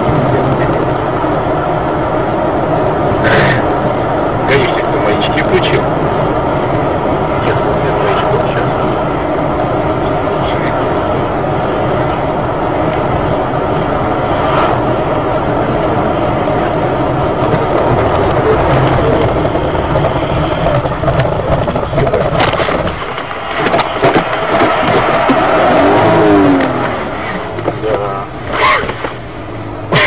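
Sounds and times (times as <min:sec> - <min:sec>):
car engine drone: 0:00.0 - 0:30.0
road and tyre noise: 0:00.0 - 0:30.0.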